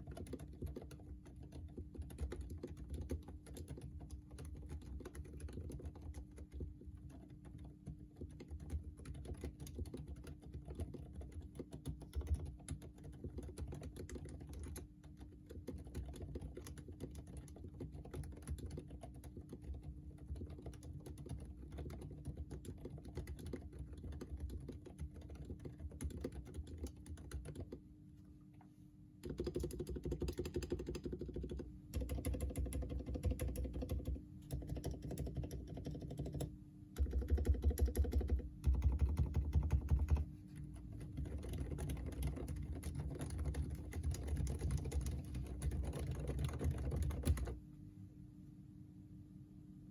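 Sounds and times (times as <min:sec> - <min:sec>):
keyboard typing: 0:00.0 - 0:27.8, 0:29.2 - 0:47.6.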